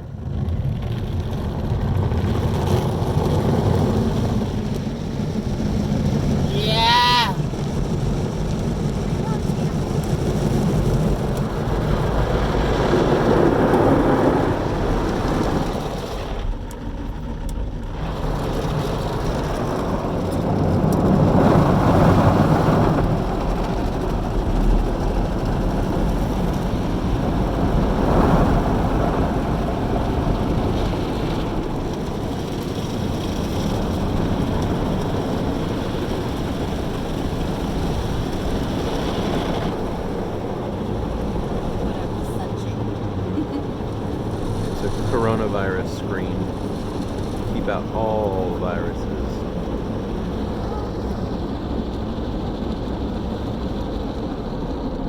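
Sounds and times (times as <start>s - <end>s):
car wash machinery noise: 0.0s - 55.0s.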